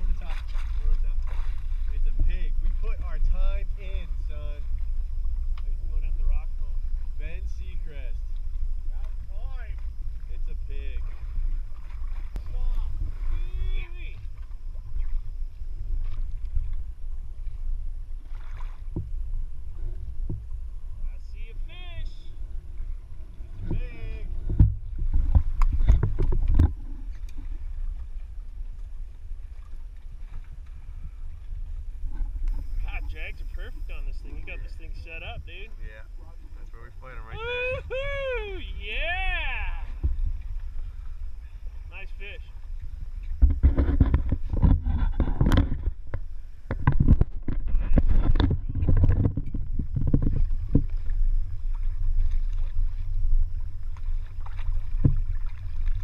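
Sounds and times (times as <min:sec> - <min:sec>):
boat low rumble: 0:00.0 - 0:56.0.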